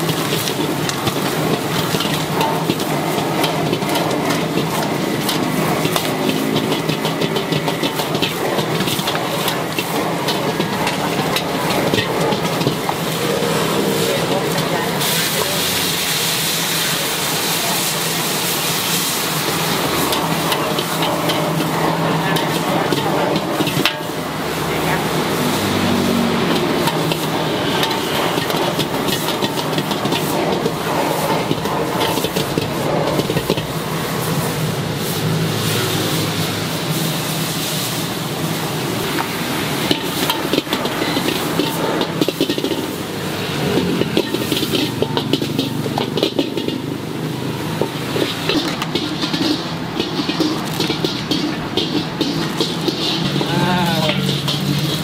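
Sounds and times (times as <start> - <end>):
food sizzling in a wok: 0.0 - 55.0
metal ladle scraping a wok: 0.0 - 55.0
wok burner roaring: 0.0 - 55.0.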